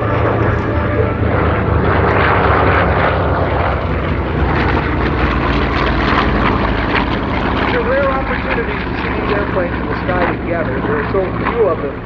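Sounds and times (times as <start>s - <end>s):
propeller planes droning past: 0.0s - 12.0s.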